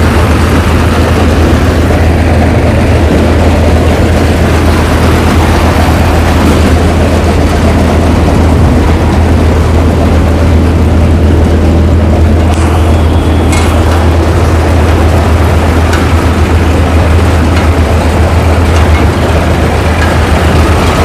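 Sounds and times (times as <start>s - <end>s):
combine harvester engine droning: 0.0s - 21.0s.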